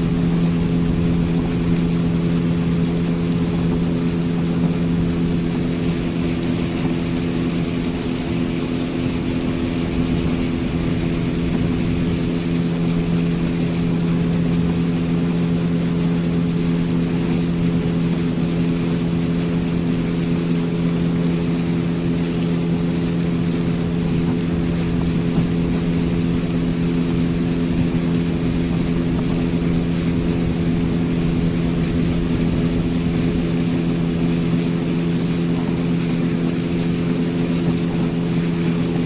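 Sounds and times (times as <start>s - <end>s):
motorboat engine humming: 0.0s - 39.0s.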